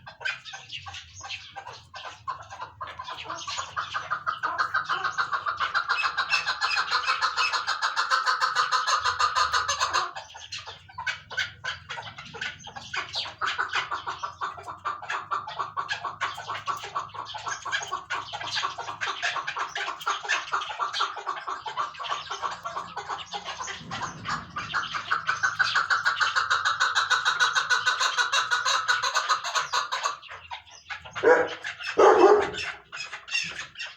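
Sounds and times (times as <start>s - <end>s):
partridge clucking calls: 0.0s - 33.9s.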